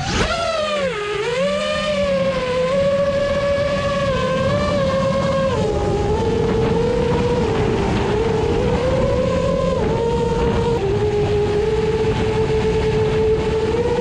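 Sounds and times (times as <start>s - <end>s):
drone propellers whining: 0.0s - 14.0s
wind on microphone: 0.0s - 14.0s.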